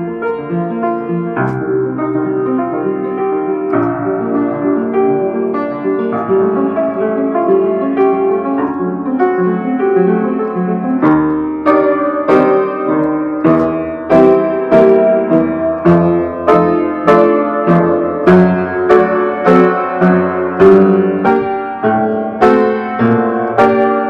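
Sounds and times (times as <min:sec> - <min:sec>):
solo piano melody: 0:00.0 - 0:24.0.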